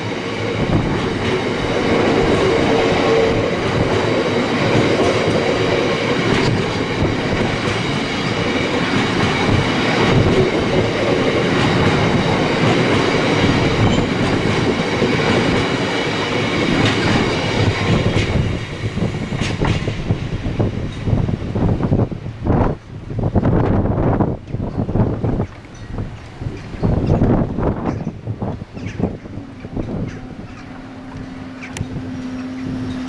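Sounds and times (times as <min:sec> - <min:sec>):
train wheels clattering on rails: 0:00.0 - 0:33.0.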